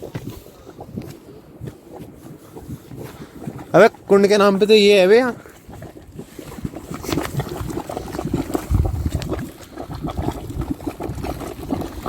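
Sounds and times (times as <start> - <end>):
hot spring water bubbling: 0.0 - 12.0.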